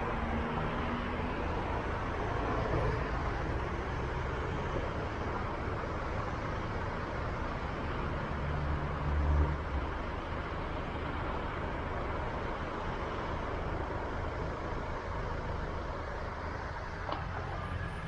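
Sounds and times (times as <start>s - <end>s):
bicycle road noise: 0.0s - 18.0s.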